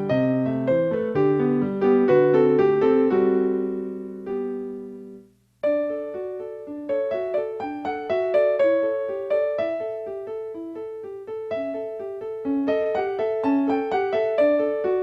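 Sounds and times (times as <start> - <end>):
solo piano: 0.0 - 15.0.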